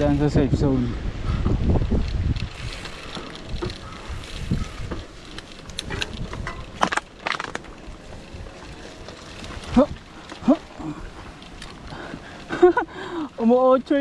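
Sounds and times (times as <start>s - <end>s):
bicycle rattling over rough ground: 0.0s - 14.0s
bicycle clicks and knocks: 2.0s - 13.3s.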